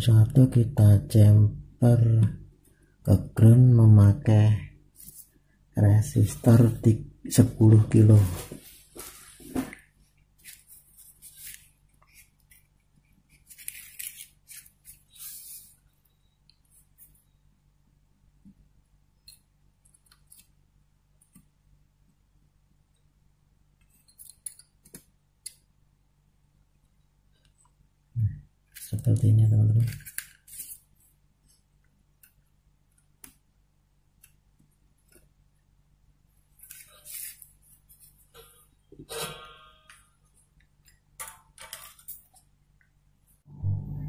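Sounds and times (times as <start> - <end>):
low steady hum: 0.0 - 41.2, 41.9 - 44.0.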